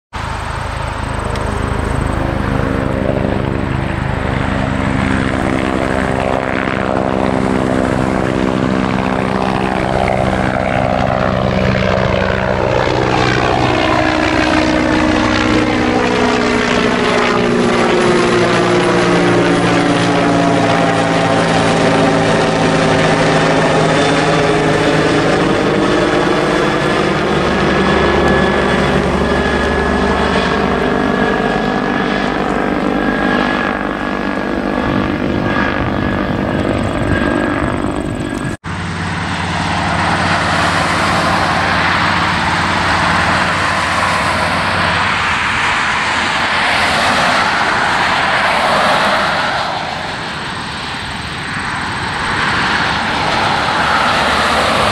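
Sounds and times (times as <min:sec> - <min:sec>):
helicopter rotor and turbine drone: 0:00.1 - 0:54.9.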